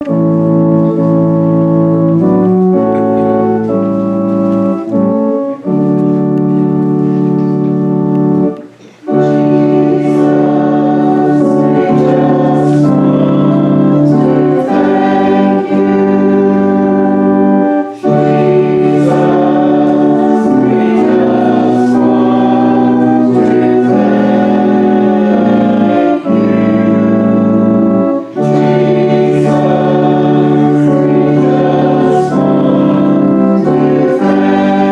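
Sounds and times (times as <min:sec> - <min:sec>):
church organ chords: 0:00.0 - 0:34.9.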